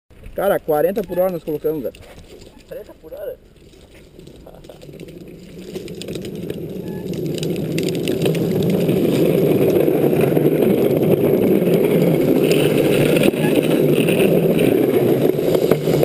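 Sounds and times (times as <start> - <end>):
rushing wind: 0.1 - 16.0
tyre noise on wet road: 0.1 - 16.0.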